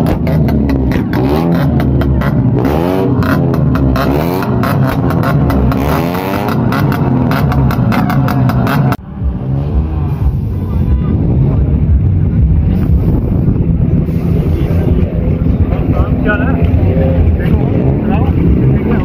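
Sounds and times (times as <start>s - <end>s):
car engine revving: 0.0s - 19.0s
exhaust crackles: 0.0s - 19.0s.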